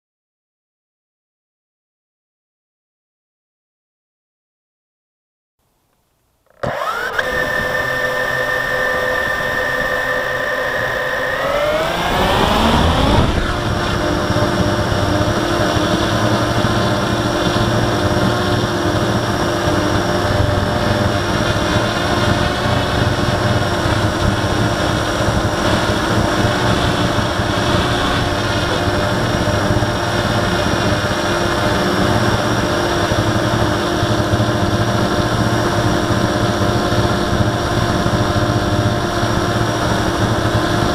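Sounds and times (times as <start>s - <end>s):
quadcopter motors whining: 6.5s - 40.9s.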